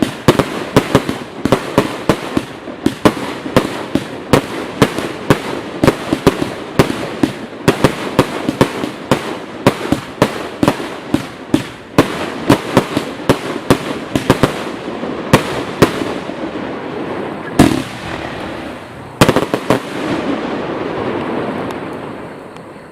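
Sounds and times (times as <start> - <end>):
firework sharp bangs: 0.0 - 22.4
firework crackling hiss: 0.0 - 22.9.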